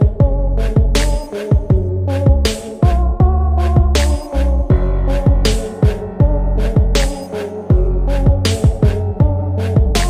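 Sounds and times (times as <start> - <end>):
hip hop music with heavy bass: 0.0 - 10.0.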